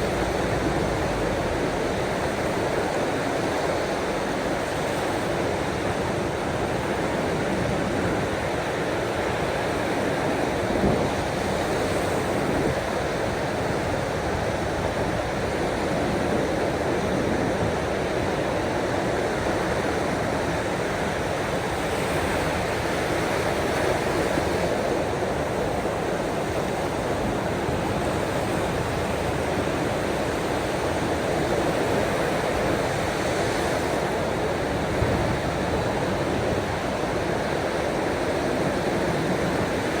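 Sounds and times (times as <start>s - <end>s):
ocean waves washing on shore: 0.0s - 40.0s.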